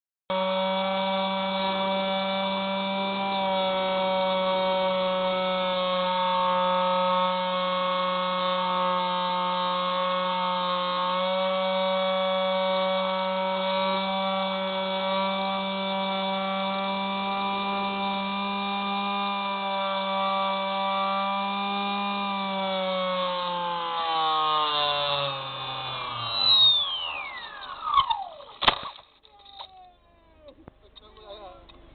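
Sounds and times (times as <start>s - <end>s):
electric motor and propeller whine: 0.3s - 29.8s.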